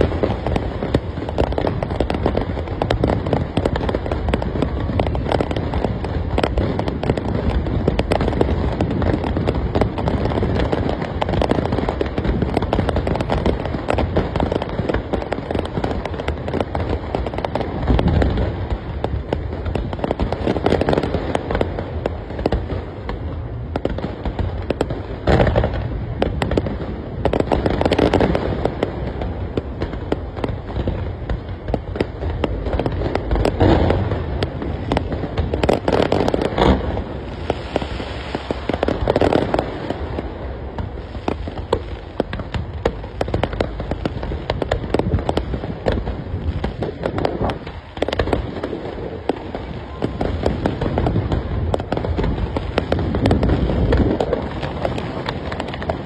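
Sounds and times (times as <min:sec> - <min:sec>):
fireworks booms: 0:00.0 - 0:56.0
fireworks crackling: 0:00.0 - 0:56.0.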